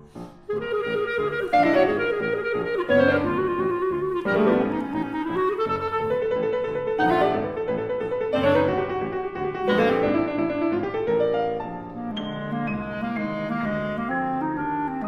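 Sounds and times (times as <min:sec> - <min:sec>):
clarinet: 0:00.0 - 0:15.0
piano: 0:00.0 - 0:15.0.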